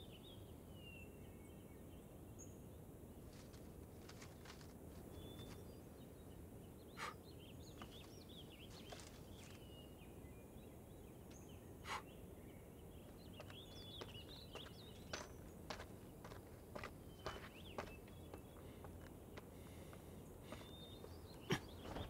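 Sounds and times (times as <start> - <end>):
low steady background noise: 0.0 - 22.0
small birds chirping: 0.0 - 22.0.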